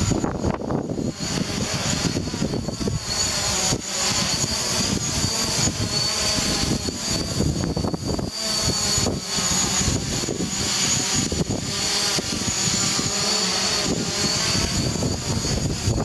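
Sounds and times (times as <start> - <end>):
drone propellers whining: 0.0 - 16.0
wind buffeting microphone: 0.0 - 16.0.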